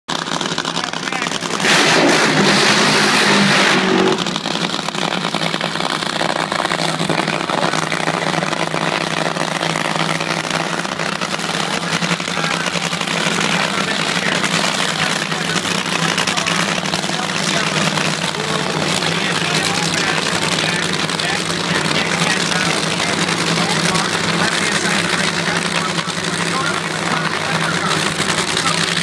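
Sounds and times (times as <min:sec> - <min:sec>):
drag racing engines roaring: 0:00.1 - 0:29.0.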